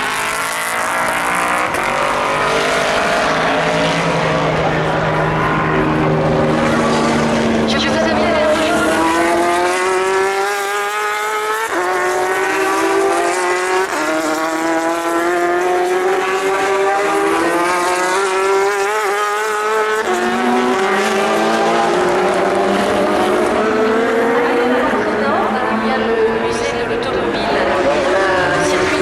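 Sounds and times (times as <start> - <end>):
race car engine accelerating: 0.0 - 29.0.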